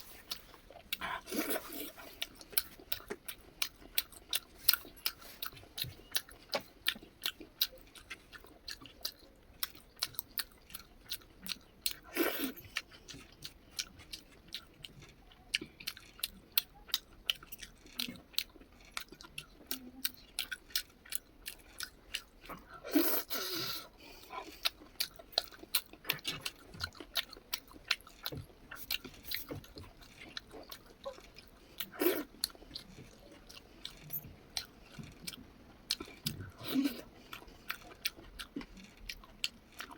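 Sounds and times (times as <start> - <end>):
close-up chewing: 0.0 - 39.9.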